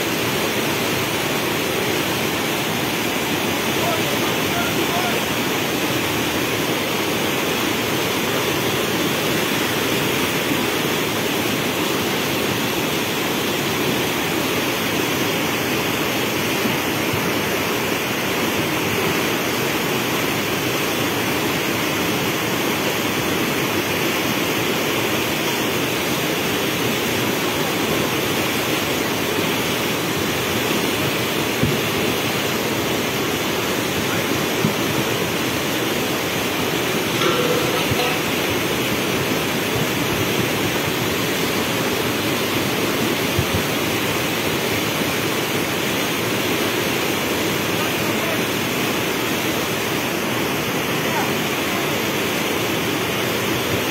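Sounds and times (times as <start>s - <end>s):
floodwater rushing: 0.0s - 53.9s.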